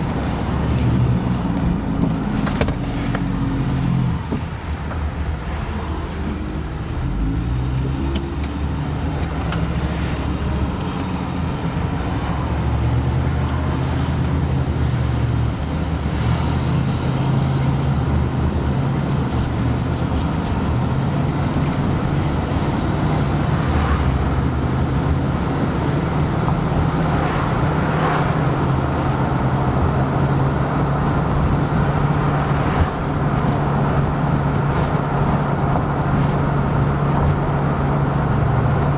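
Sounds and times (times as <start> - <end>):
vehicle engine and tyre road noise: 0.0 - 38.9.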